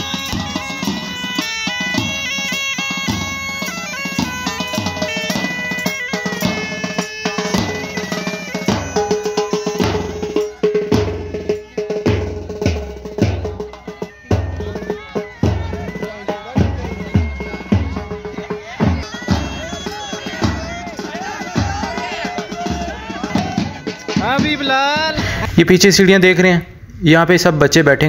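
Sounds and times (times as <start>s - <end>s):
bagpipes playing: 0.0s - 25.2s
marching drums beating: 0.0s - 25.4s.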